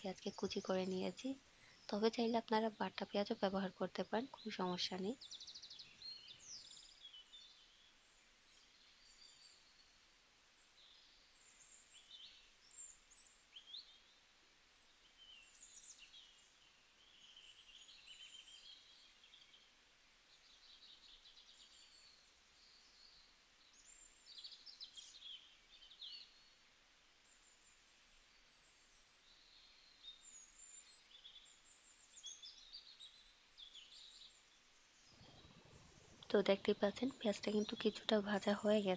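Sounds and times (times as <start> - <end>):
faint birds chirping and trilling: 0.0 - 38.9.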